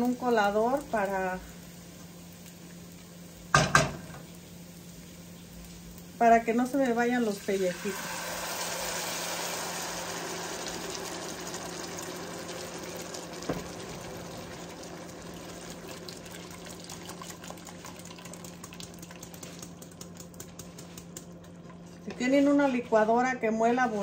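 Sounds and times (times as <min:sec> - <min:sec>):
sauce sizzling in hot oil: 0:00.0 - 0:21.3.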